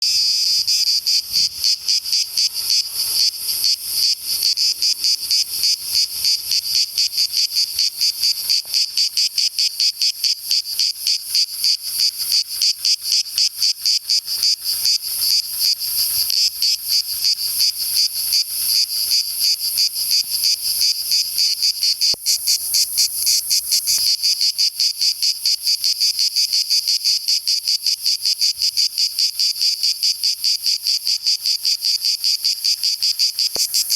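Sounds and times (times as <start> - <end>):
cicadas singing: 0.0 - 33.9.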